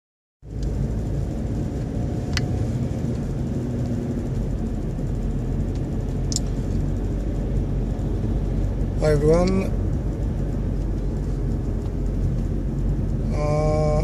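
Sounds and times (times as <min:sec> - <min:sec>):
car engine and tyres rumble: 0:00.4 - 0:14.0.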